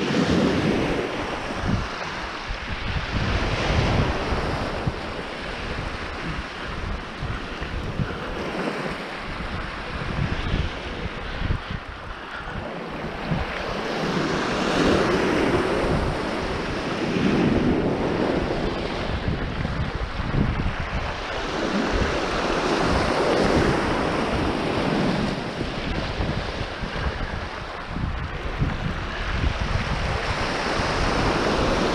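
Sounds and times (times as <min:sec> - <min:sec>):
wind rumbling on microphone: 0:00.0 - 0:31.9.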